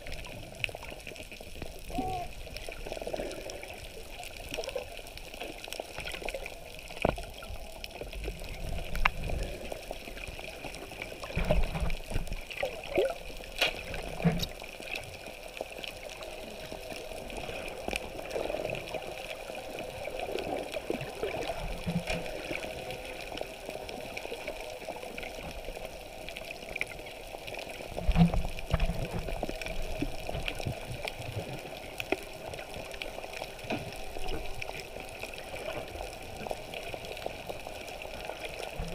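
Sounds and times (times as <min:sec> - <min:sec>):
underwater watery rush: 0:00.0 - 0:38.9.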